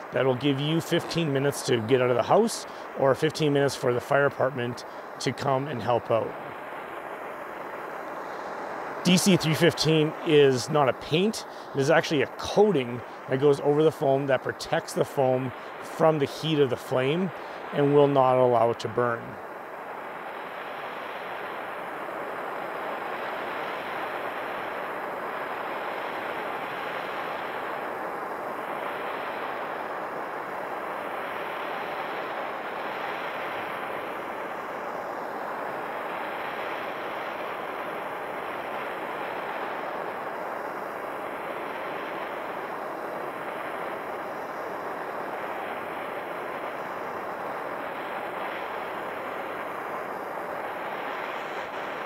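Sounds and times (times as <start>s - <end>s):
hand torch flame hissing: 0.0s - 52.0s.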